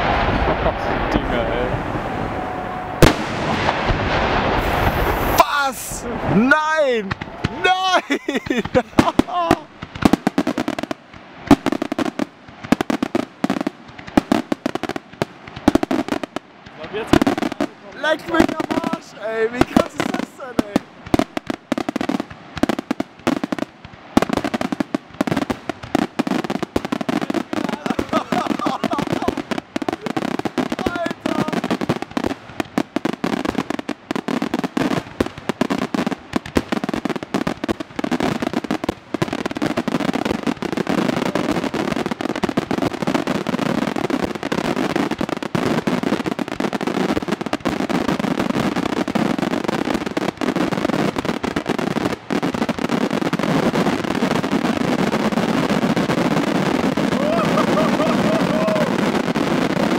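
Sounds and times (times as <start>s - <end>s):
fireworks bursts and bangs: 0.0s - 59.9s
fireworks crackling: 0.0s - 59.9s.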